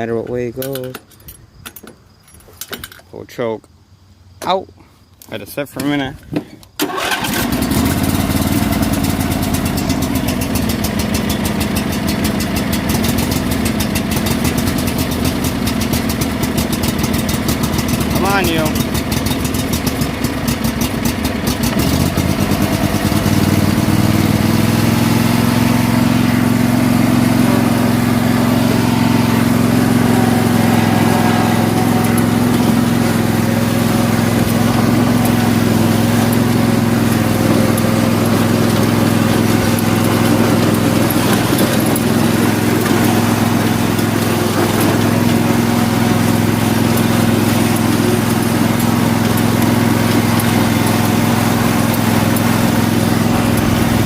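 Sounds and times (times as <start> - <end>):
lawn mower engine starting: 0.0 - 1.4, 2.3 - 3.1, 5.6 - 54.0.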